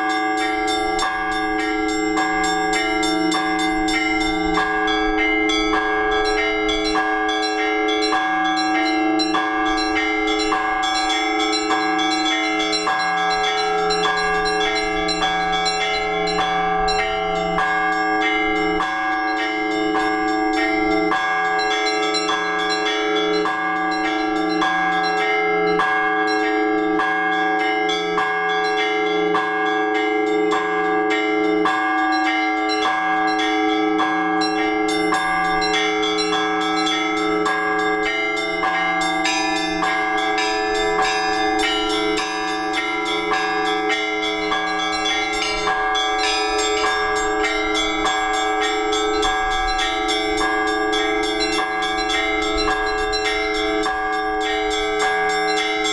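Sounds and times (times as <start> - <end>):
large bells ringing: 0.0 - 55.9
small bells struck rhythmically: 0.0 - 55.9.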